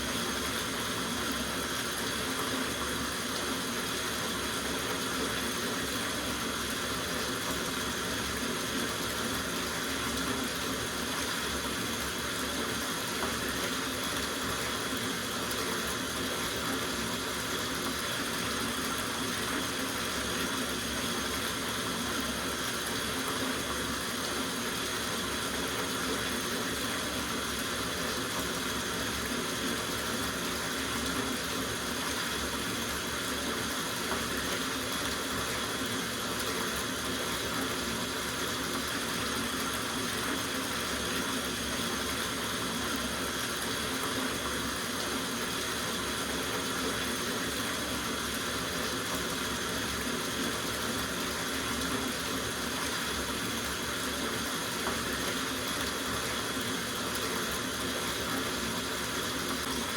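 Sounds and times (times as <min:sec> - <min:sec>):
tap water running into bathtub: 0:00.0 - 0:59.9.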